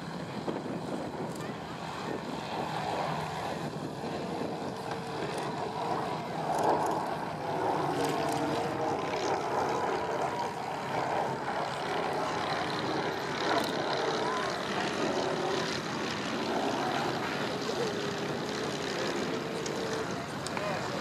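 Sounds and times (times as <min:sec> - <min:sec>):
propeller plane droning past: 0:00.0 - 0:21.0.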